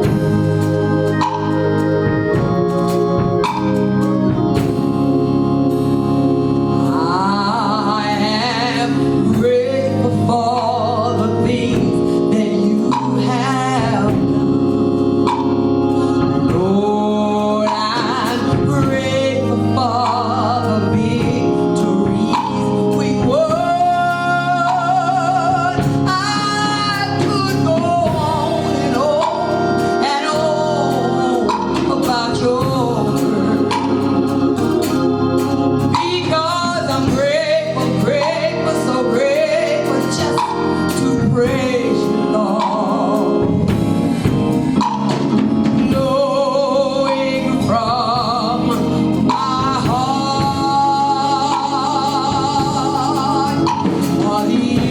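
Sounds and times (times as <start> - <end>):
gospel singing: 0.0 - 54.9
organ chords: 0.0 - 54.9.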